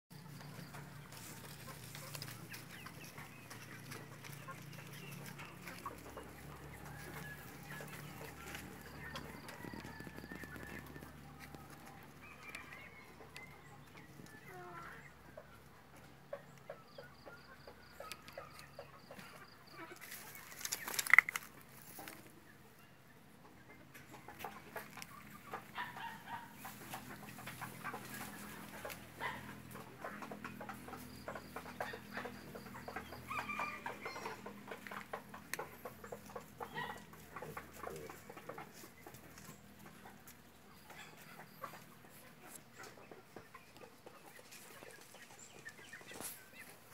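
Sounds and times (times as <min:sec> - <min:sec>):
chickens clucking: 0:00.1 - 0:46.9.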